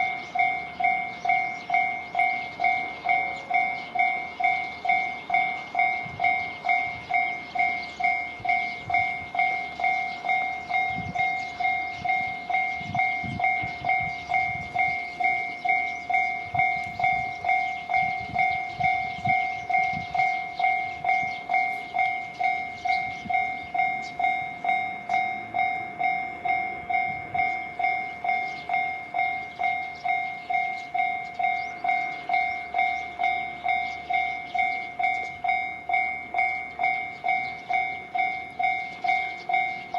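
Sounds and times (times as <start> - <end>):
level crossing warning bell: 0.0 - 39.9
train rumbling and clacking past: 0.0 - 39.9.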